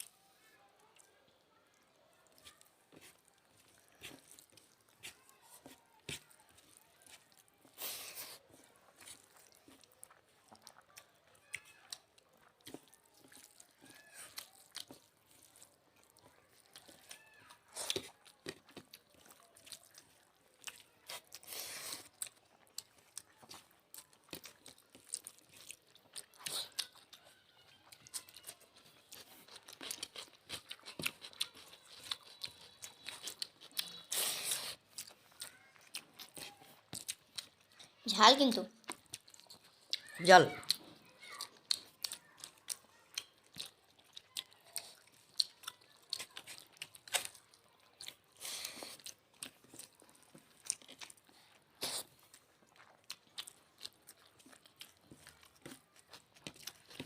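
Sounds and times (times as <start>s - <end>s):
people chewing and crunching: 0.0s - 57.0s.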